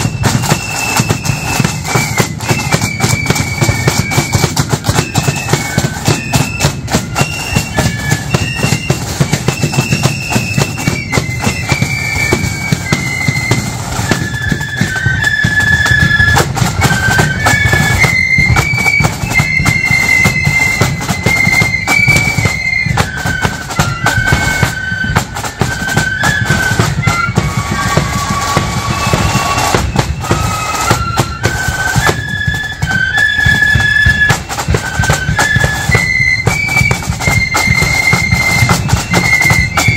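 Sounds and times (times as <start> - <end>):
flutes playing march melody: 0.0 - 39.9
snare and bass drums beat: 0.0 - 39.9.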